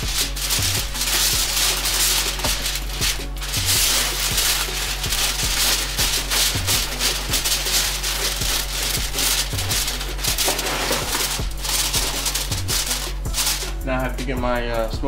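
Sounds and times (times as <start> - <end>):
music with repeating beat: 0.0 - 15.0.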